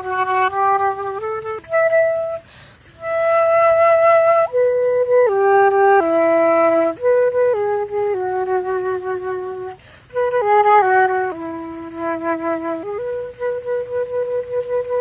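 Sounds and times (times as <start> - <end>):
flute playing slow notes: 0.0 - 15.0.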